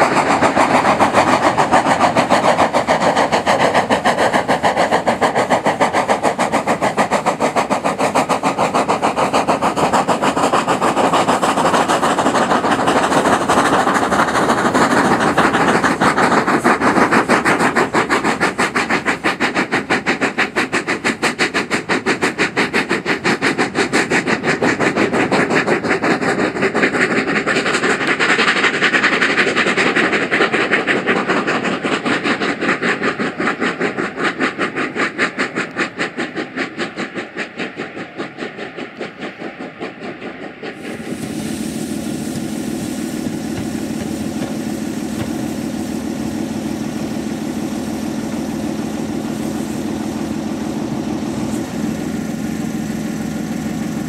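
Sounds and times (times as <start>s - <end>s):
steam locomotives chuffing: 0.0s - 54.0s.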